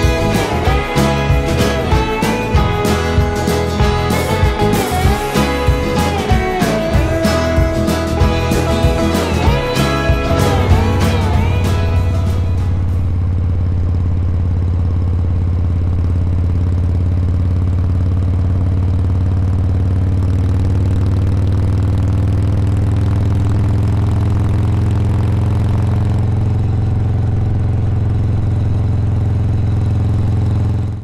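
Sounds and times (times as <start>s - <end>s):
motorcycle engine cruising: 0.0s - 31.0s.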